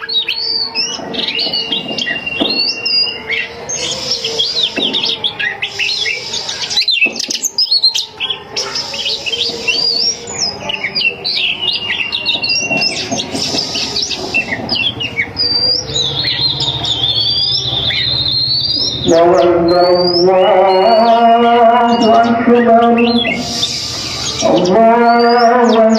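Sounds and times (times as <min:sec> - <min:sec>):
bird singing whistled notes: 0:00.0 - 0:25.9.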